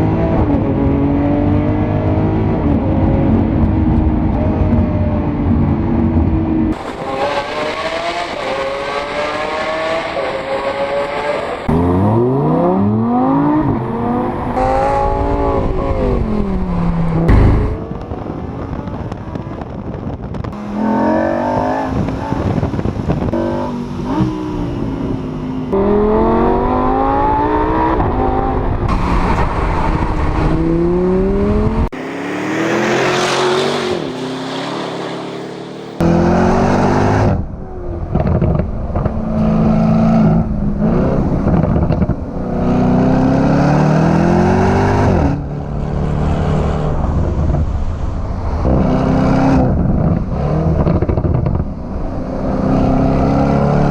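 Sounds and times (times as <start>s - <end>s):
car engine accelerating hard: 0.0s - 53.9s.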